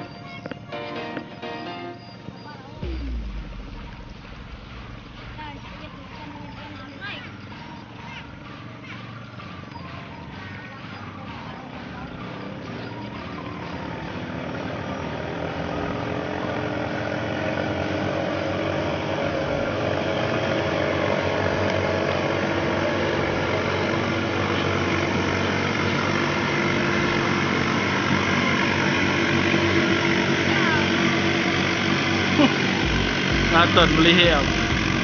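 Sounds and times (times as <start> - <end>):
boat engine running: 1.8 - 35.0.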